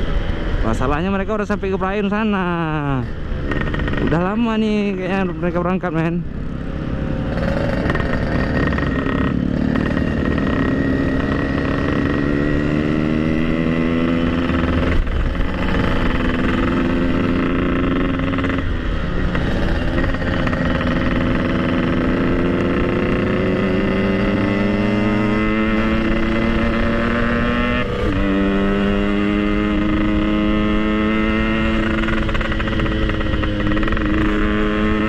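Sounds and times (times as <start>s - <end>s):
two-stroke motorcycle engine running: 3.2s - 35.0s.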